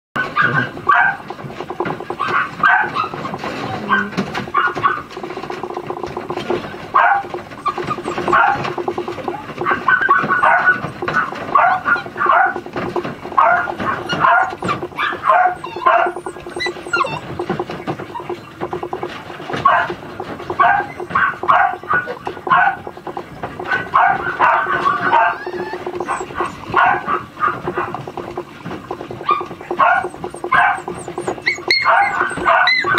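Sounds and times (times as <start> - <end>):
puppies yapping and whining: 0.2 - 32.9
steady low buzz: 0.7 - 31.7.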